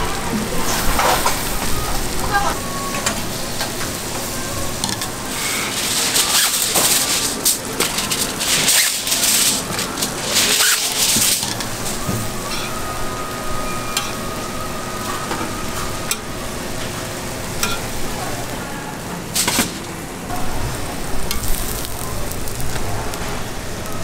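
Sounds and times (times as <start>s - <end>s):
food sizzling on a griddle: 0.6s - 18.6s, 20.3s - 24.0s.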